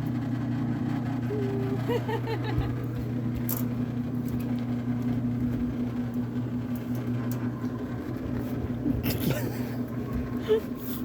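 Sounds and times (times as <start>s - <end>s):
boat lift motor humming: 0.0s - 11.0s.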